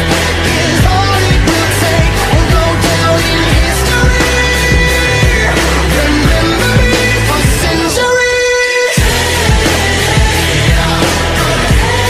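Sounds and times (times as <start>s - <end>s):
music with driving beat: 0.0s - 12.0s.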